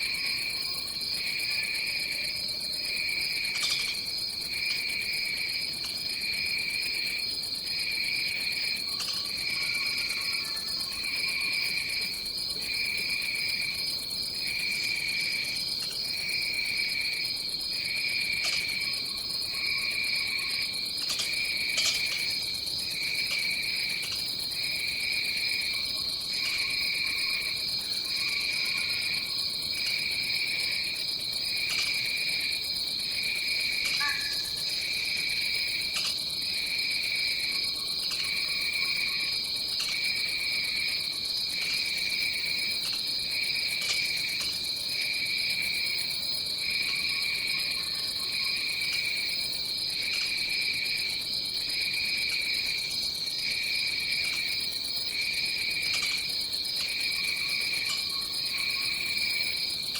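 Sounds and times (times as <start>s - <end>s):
pulsing lower insect chorus: 0.0s - 59.9s.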